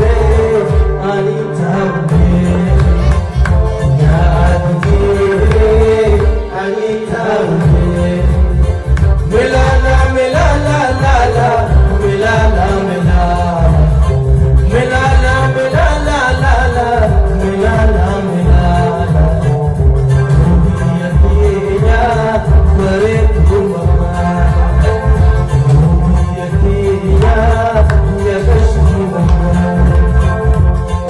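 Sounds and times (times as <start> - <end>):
heavy pulsing bass beat: 0.0 - 1.0, 2.1 - 6.5, 7.5 - 31.0
guitar: 0.0 - 31.0
man singing into microphone: 0.0 - 31.0.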